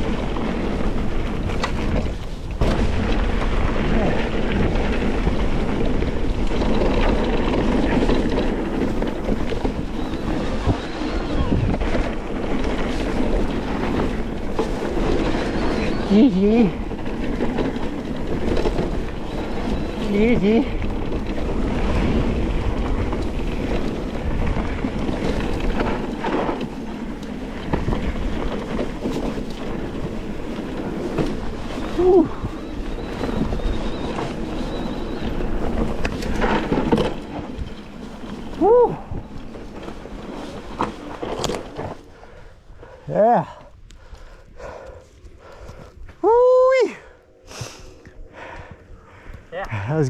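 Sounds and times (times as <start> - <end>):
rumble and rattle over rough ground: 0.0 - 50.0
wind buffeting microphone: 0.0 - 50.0.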